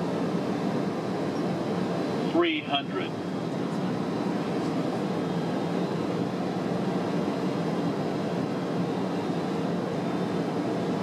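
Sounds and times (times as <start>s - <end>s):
low rush of airflow and engines: 0.0s - 11.0s.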